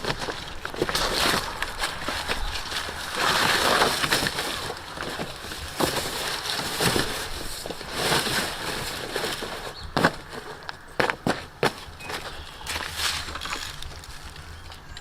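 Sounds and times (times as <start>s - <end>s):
cardboard scraping on ground: 0.0s - 14.5s.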